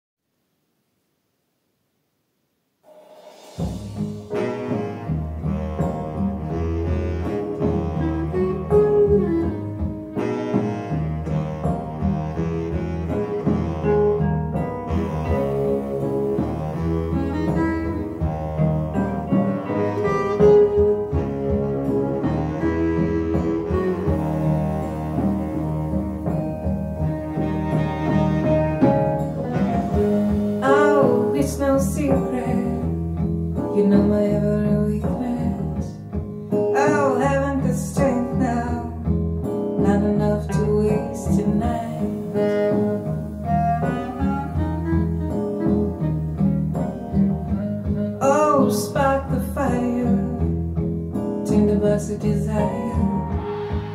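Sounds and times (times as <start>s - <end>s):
instrumental music with low strings: 2.9s - 53.9s.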